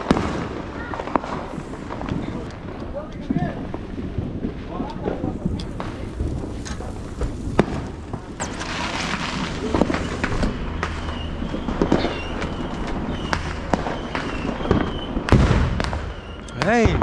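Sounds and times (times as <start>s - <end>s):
steady background noise: 0.0s - 16.9s
fireworks cracking and popping: 0.0s - 17.0s.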